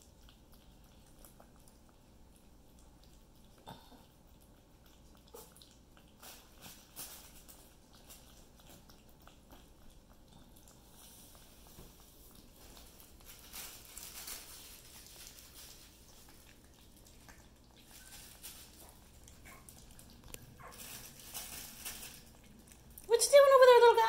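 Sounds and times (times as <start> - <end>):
puppies chewing and licking: 0.0 - 24.0.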